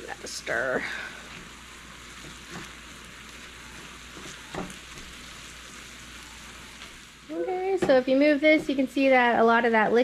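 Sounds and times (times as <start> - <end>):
ground beef sizzling in a pan: 0.0 - 10.0.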